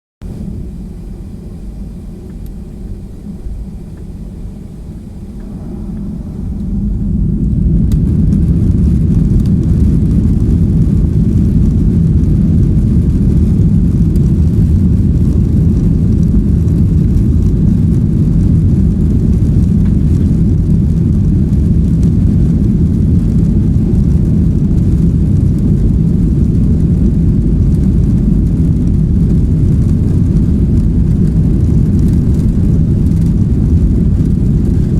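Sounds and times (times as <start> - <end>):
jet engines roaring from cabin: 0.2 - 34.9.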